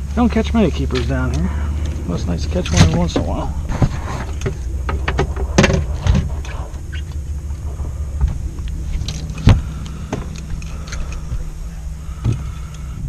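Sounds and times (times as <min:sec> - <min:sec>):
boat engine low rumble: 0:00.0 - 0:13.0.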